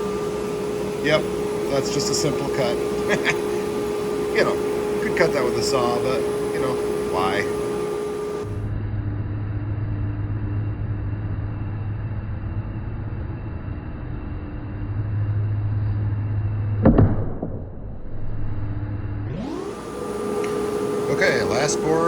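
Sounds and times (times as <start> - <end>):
low hum with faint tone: 0.0 - 22.0.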